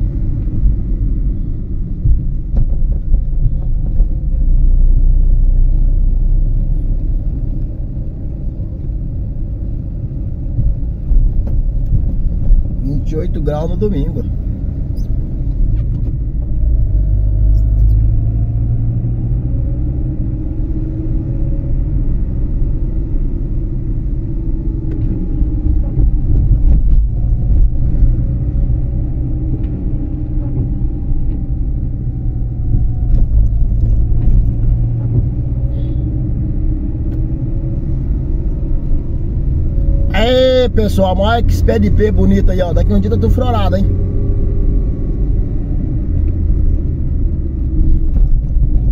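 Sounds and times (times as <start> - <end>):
car engine and road rumble: 0.0 - 48.9.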